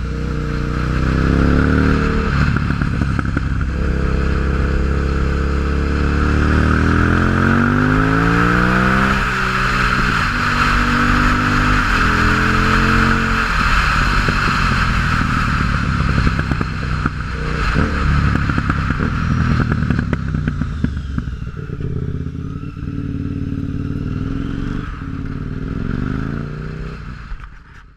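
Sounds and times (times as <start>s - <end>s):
motorcycle engine accelerating: 0.0s - 27.8s
exhaust popping and crackling: 2.0s - 26.1s.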